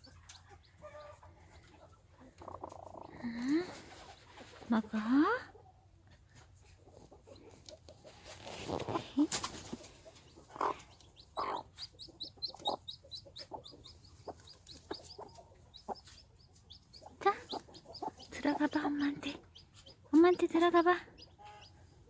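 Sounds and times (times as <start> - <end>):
chicks peeping: 0.0 - 4.7, 6.3 - 22.0
hen clucking: 0.0 - 5.1, 6.6 - 21.9.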